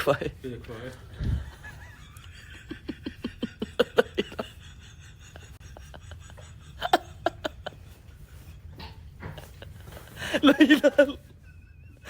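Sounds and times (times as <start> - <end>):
person laughing: 1.2 - 12.0.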